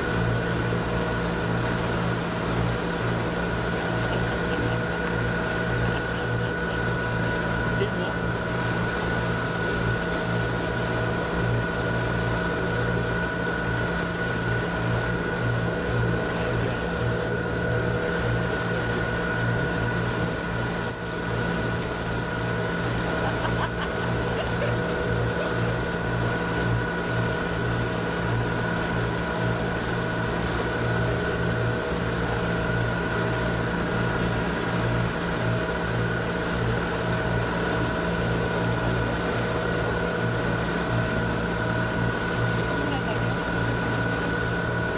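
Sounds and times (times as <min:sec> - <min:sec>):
motorboat engine droning: 0:00.0 - 0:44.9
wind and water rushing: 0:00.0 - 0:44.9.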